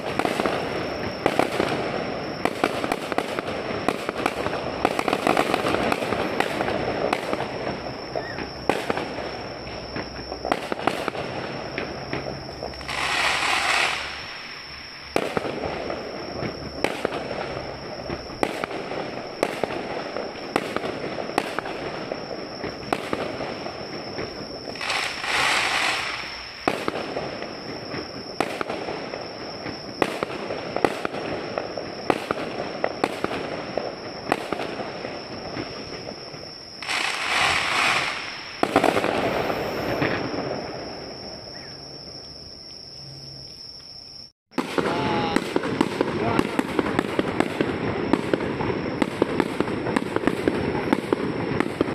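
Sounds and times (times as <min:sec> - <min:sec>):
fireworks hissing rushes: 0:00.0 - 0:41.7, 0:44.5 - 0:51.9
fireworks bangs and crackles: 0:00.0 - 0:42.6, 0:44.2 - 0:51.9.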